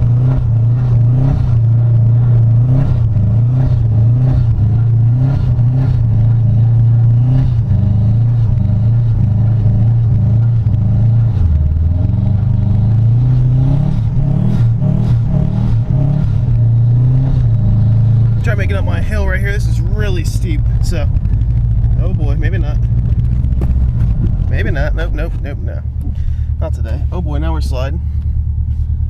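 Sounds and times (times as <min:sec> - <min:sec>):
car engine revving high: 0:00.0 - 0:27.8.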